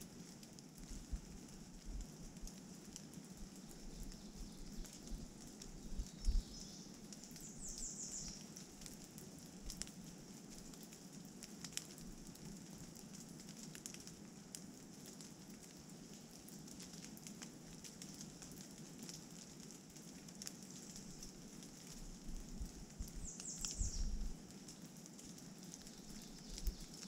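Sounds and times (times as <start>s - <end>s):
rain pattering on leaves: 0.0s - 27.0s.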